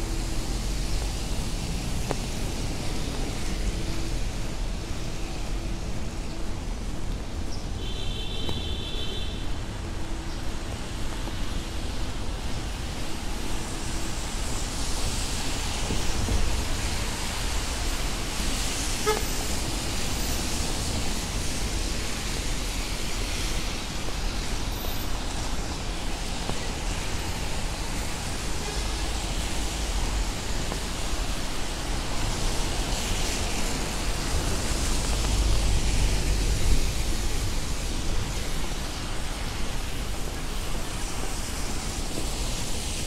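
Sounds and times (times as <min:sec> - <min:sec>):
rain hissing on street: 0:00.0 - 0:43.0
traffic rumble: 0:00.0 - 0:43.0.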